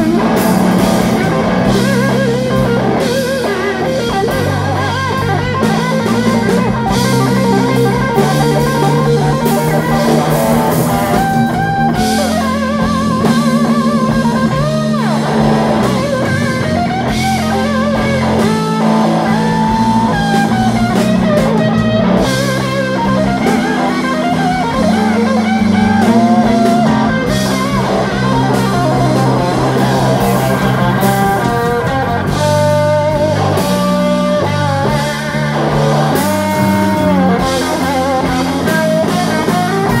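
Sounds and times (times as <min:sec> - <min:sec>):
bass guitar: 0:00.0 - 0:40.0
drum kit: 0:00.0 - 0:40.0
electric guitar lead: 0:00.0 - 0:40.0.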